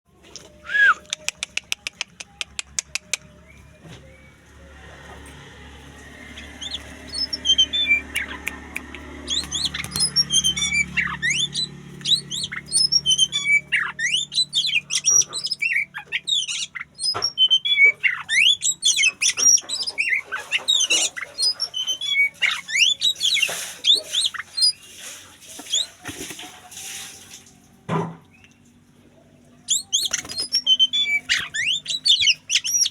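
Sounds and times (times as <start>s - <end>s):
bird singing varied song: 0.6s - 4.8s, 5.9s - 24.8s, 28.3s - 32.9s.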